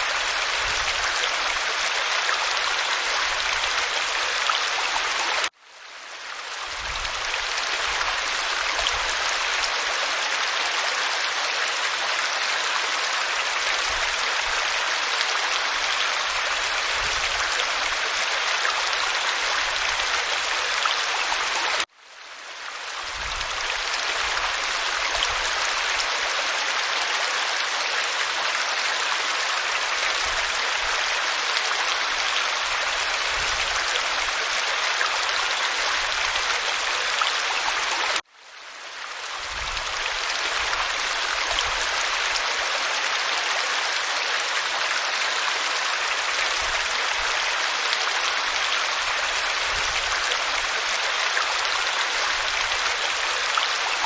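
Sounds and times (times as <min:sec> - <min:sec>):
waterfall rushing over rocks: 0:00.0 - 0:05.6, 0:06.4 - 0:21.9, 0:22.8 - 0:38.2, 0:39.1 - 0:54.0.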